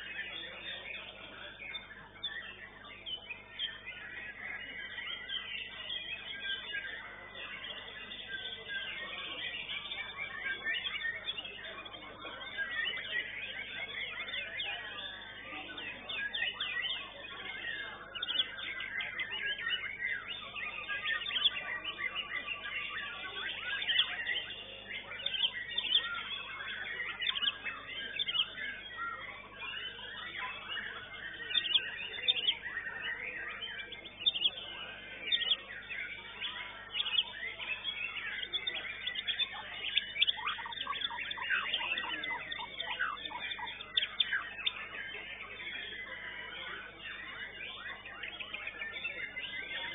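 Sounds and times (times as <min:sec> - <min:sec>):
other songbirds singing: 0:00.0 - 0:49.9
songbird chirps whistles and trills: 0:00.0 - 0:49.9.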